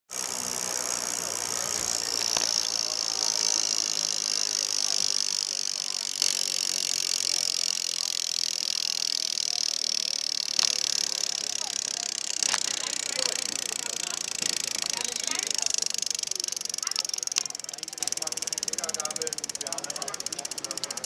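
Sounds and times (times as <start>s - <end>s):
indistinct voices: 0.2s - 21.0s
sharp clicks: 1.9s - 21.0s.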